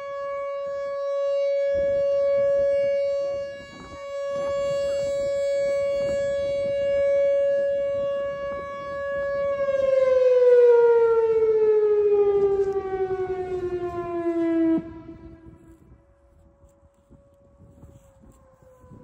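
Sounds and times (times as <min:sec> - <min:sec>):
outdoor warning siren: 0:00.0 - 0:19.0.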